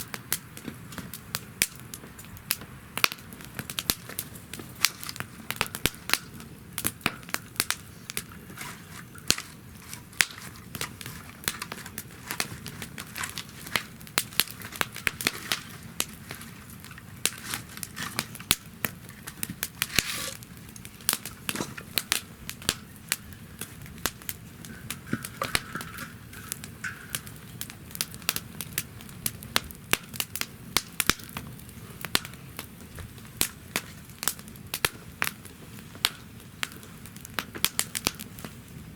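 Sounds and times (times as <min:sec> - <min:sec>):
fire crackling and popping: 0:00.0 - 0:38.9
low sound of flames: 0:00.0 - 0:38.9.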